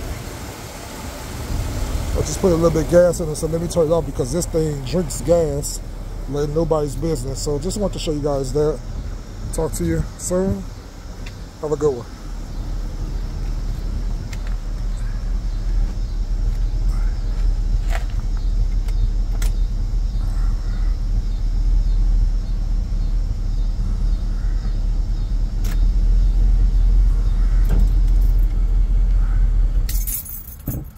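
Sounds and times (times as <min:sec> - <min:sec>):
engine deep low rumble: 0:00.0 - 0:30.9.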